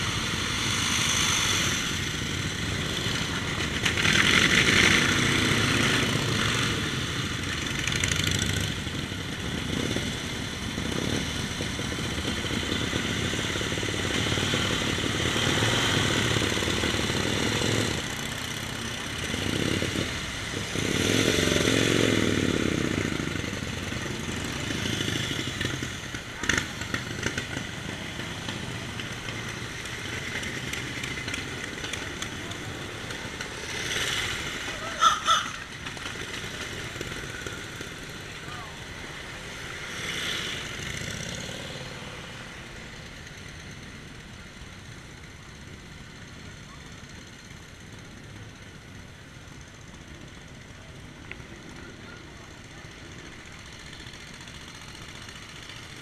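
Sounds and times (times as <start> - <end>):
motorcycle engines passing: 0.0 - 56.0.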